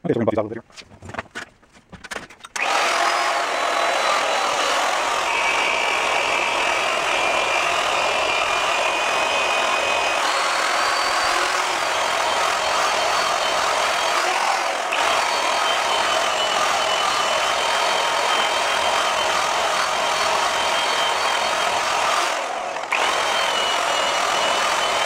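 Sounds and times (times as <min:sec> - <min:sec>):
electric polisher running: 0:02.6 - 0:25.0.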